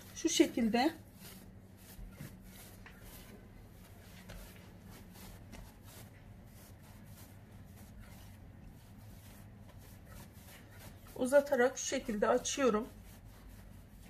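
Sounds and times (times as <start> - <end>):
hands rubbing dough on countertop: 0.0 - 14.0
low steady hum: 0.0 - 14.0.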